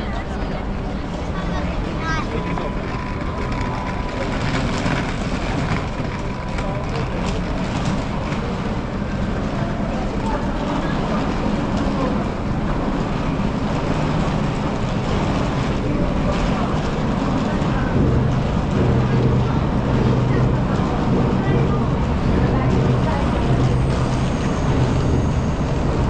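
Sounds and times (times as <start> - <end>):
crowd chatter: 0.0 - 26.0
traffic: 0.0 - 26.0.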